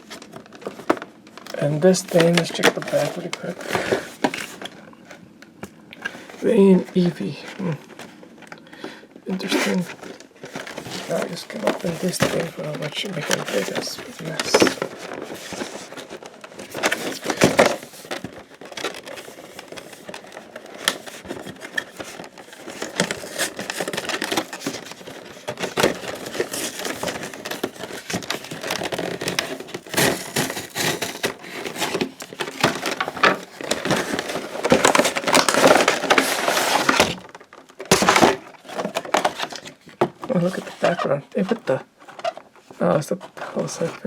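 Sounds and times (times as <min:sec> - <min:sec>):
cardboard box being opened: 0:00.0 - 0:04.8, 0:09.4 - 0:42.5.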